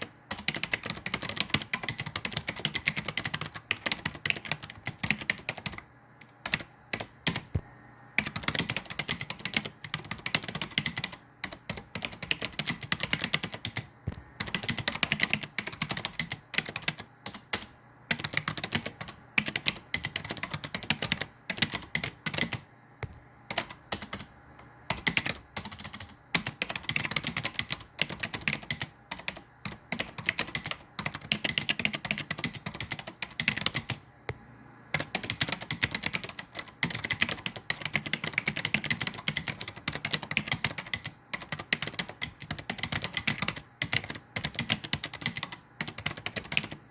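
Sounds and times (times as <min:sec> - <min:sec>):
typing on computer keyboard: 0:00.0 - 0:07.6, 0:08.2 - 0:34.0, 0:35.0 - 0:46.8.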